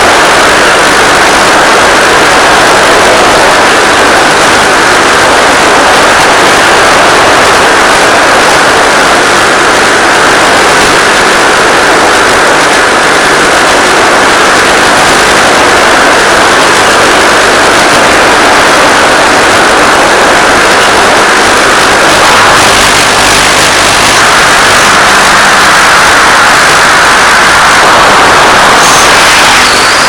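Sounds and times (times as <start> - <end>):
electric motor and propeller drone: 0.0 - 30.0.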